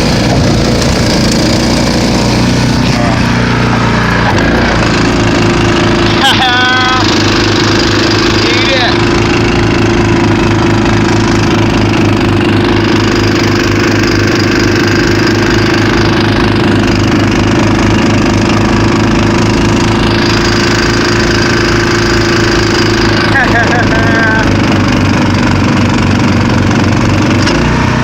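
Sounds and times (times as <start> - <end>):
snowblower engine running: 0.0 - 28.0.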